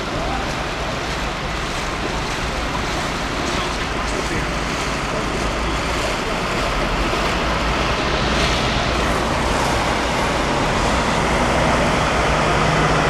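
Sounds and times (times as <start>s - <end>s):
engine hum: 0.0s - 13.0s
road traffic rush: 0.0s - 13.0s.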